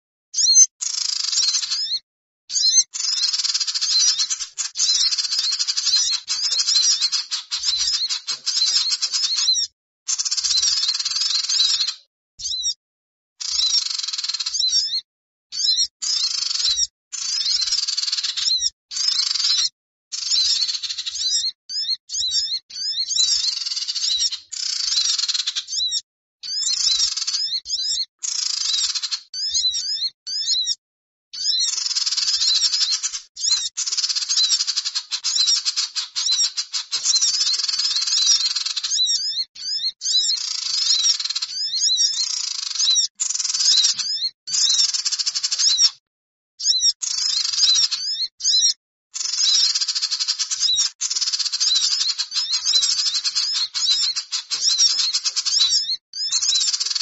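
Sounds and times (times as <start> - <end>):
sunbird chirps and twitters: 0.4 - 12.8, 13.4 - 30.8, 31.4 - 46.0, 46.6 - 57.0.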